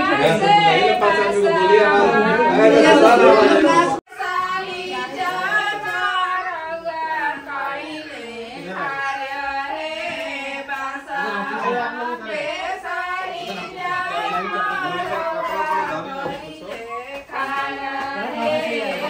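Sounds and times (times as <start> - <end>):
women singing: 0.0 - 19.0.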